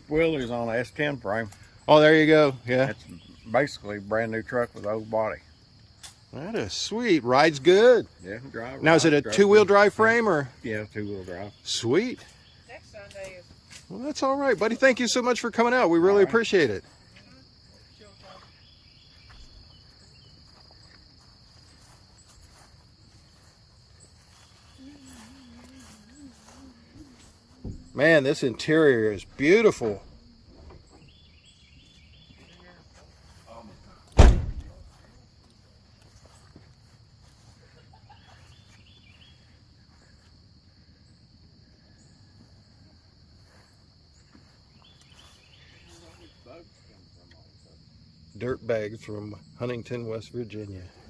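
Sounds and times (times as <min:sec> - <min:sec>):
crickets trilling: 0:00.0 - 0:51.0
insects chirring: 0:00.0 - 0:51.0.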